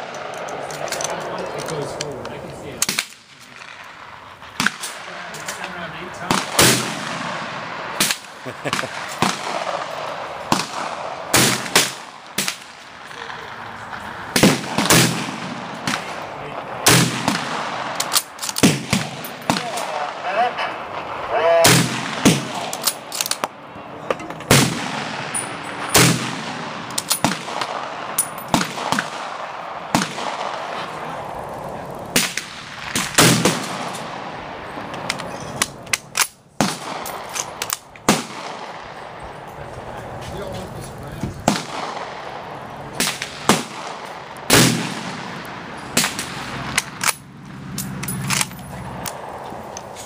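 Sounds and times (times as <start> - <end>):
rifle shots: 2.8 - 23.6, 24.4 - 31.2, 32.0 - 39.5, 41.4 - 49.3.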